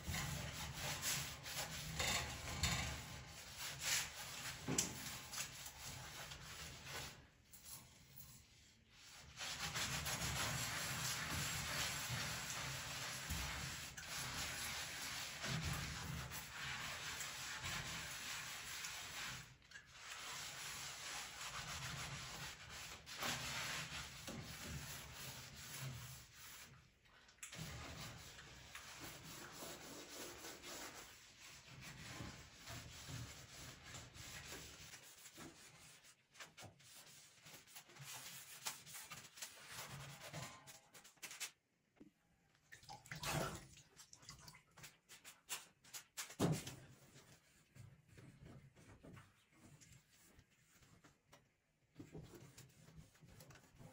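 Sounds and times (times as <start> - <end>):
sponge scrubbing stove top: 0.0 - 41.5, 44.7 - 51.2, 52.0 - 53.9.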